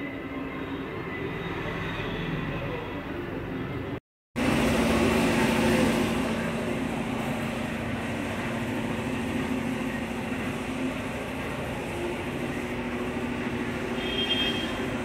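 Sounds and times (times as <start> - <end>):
workshop mechanical hum: 0.0 - 15.0.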